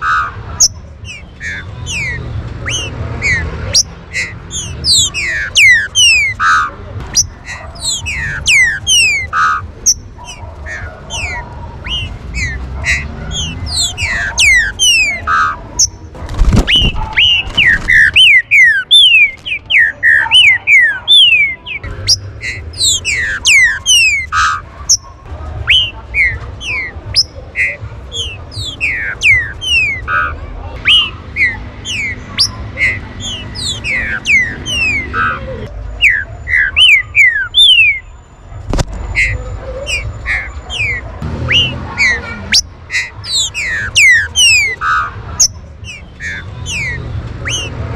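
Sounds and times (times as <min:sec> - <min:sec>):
birds whistling downward notes: 0:00.0 - 0:25.1, 0:25.7 - 0:38.1, 0:39.1 - 0:47.8.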